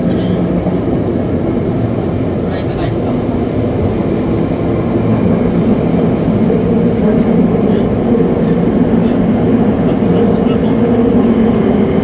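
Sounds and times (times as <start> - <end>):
subway train wheels rumbling on rails: 0.0 - 12.0.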